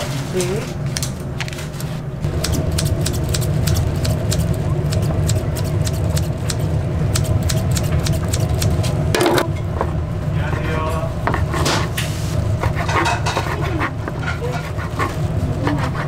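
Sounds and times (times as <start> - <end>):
faint hum: 0.0 - 16.0
kitchen equipment rumble: 0.0 - 16.0.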